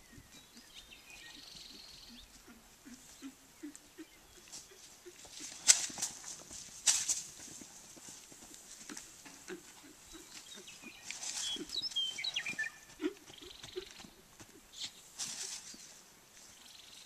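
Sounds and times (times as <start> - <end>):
horse hooves trotting on dirt: 0.0 - 16.7.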